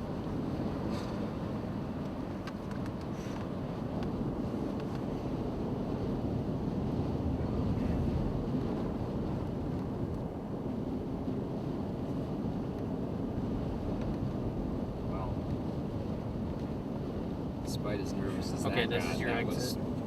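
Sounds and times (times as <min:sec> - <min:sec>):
vehicle engine and tyres on snow: 0:00.0 - 0:20.0.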